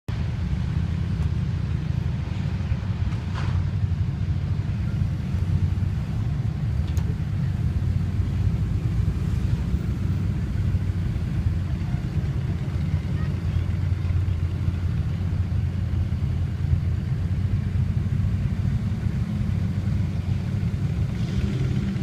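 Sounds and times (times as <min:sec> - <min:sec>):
diesel engine low rumble: 0:00.1 - 0:22.0.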